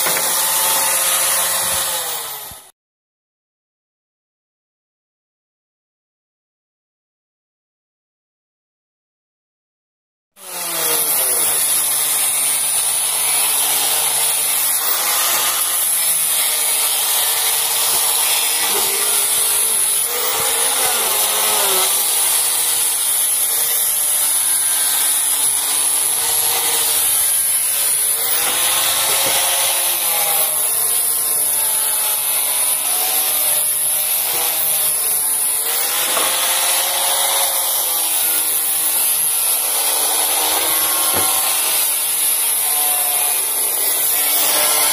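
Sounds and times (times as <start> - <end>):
electric wood planer cutting: 0.0 - 2.7, 10.4 - 44.9.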